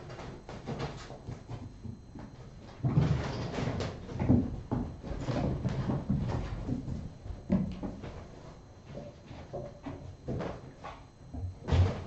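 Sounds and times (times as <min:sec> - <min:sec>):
kittens knocking and thumping: 0:00.0 - 0:12.0.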